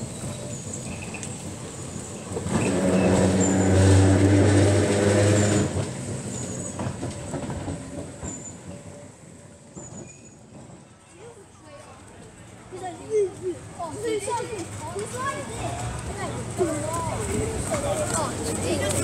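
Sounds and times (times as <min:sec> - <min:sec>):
electric tram passing by: 0:00.0 - 0:19.0.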